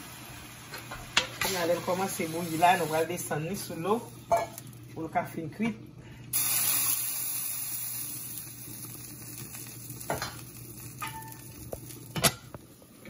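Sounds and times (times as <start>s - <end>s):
food sizzling in hot oil: 0.0s - 5.0s, 6.3s - 13.0s.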